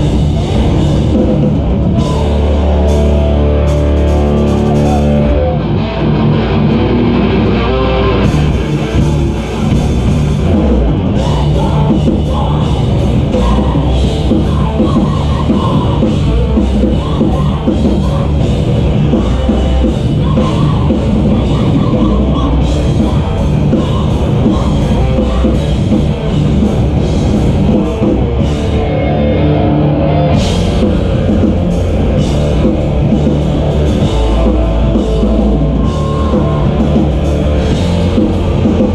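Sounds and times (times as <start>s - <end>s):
drum kit pounding: 0.0s - 29.2s, 29.9s - 38.9s
heavy rock band playing: 0.0s - 38.9s.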